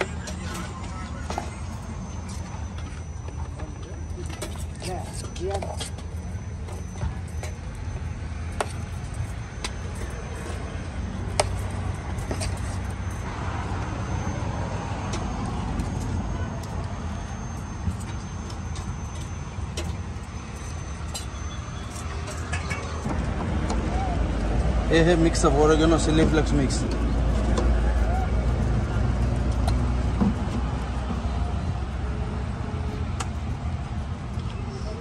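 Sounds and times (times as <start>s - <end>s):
street traffic rumble: 0.0s - 35.0s.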